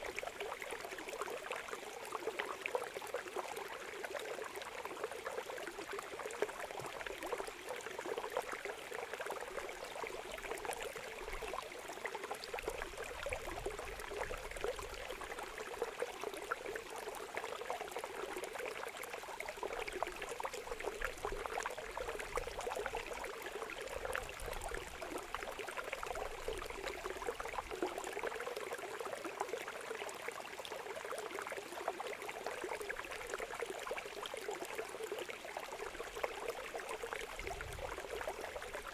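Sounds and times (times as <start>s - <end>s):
trickling babbling water: 0.0s - 38.9s.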